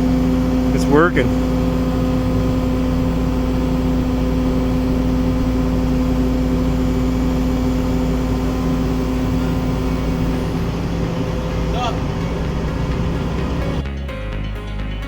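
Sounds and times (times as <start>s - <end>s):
excavator diesel engine humming: 0.0s - 13.9s.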